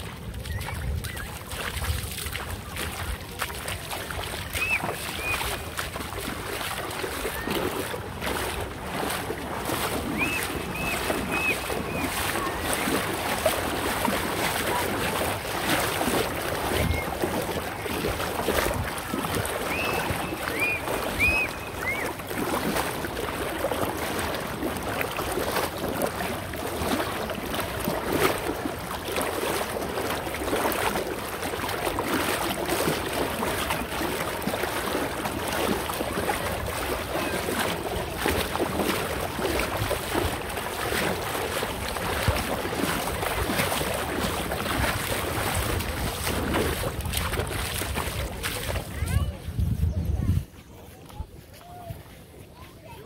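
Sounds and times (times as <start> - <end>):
river water splashing: 0.0 - 53.0.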